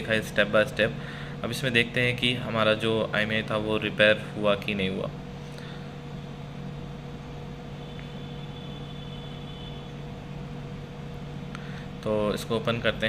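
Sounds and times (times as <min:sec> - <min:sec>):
faint high whine: 0:00.0 - 0:13.0
low machine hum: 0:00.0 - 0:13.0.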